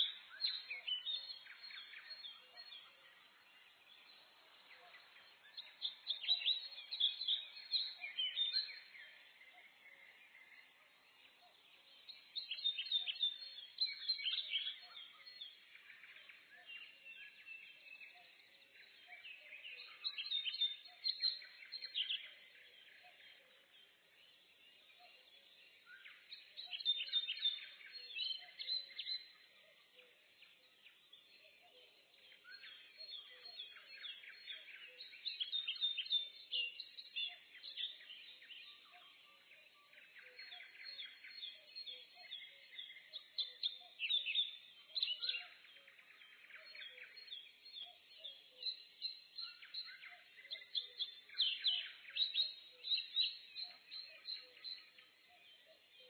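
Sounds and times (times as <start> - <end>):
birds chirping and trilling: 0.0 - 56.0
soft bird twittering: 0.0 - 56.0.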